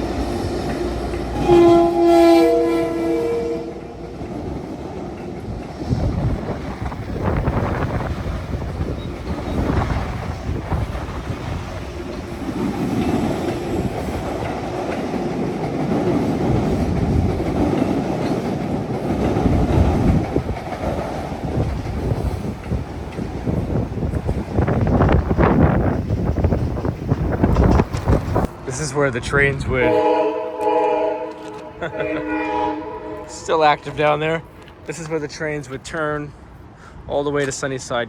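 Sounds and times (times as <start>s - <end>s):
train rumbling on tracks: 0.0s - 38.0s.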